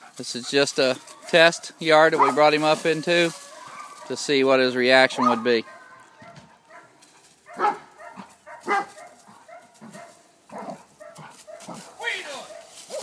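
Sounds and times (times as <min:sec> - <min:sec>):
dog barking: 0:00.0 - 0:02.5, 0:03.6 - 0:04.2, 0:05.0 - 0:13.0.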